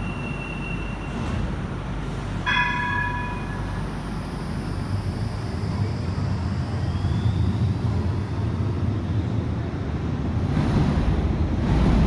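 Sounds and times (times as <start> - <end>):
tram motor whine: 0.0 - 10.4
trams rumbling: 0.0 - 12.0.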